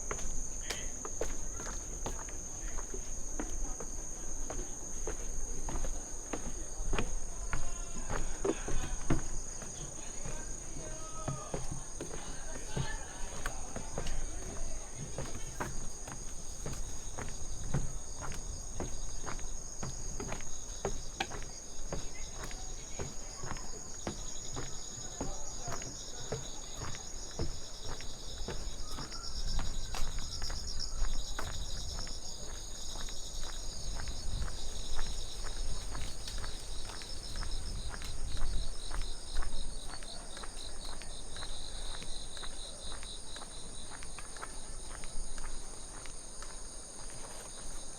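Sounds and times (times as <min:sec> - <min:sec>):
footsteps on a path: 0:00.0 - 0:47.9
insects chirring: 0:00.0 - 0:47.9.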